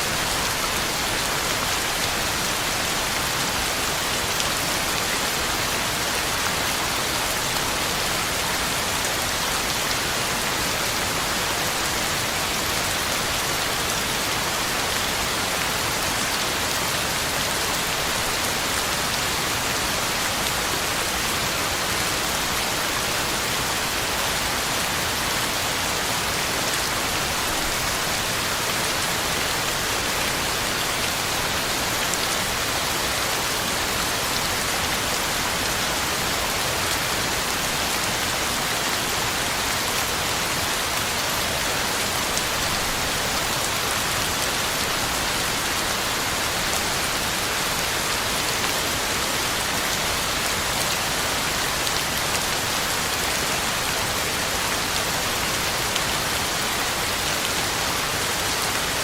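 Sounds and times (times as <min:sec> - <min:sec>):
heavy rain on ground and leaves: 0:00.0 - 0:59.0.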